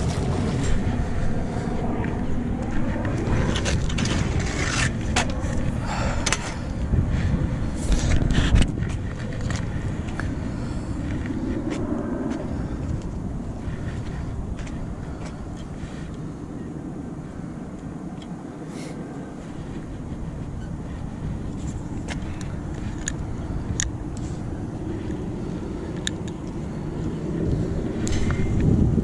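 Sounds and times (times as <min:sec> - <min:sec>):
low rumbling outdoor noise: 0:00.0 - 0:29.0.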